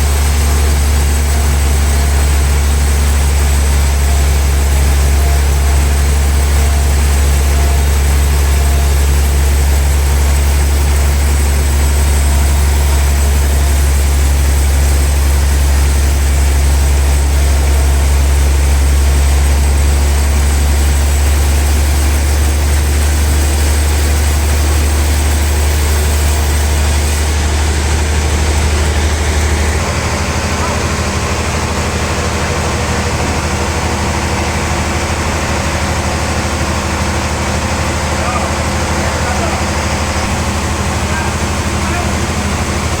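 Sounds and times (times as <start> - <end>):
sawmill machinery humming: 0.0 - 43.0.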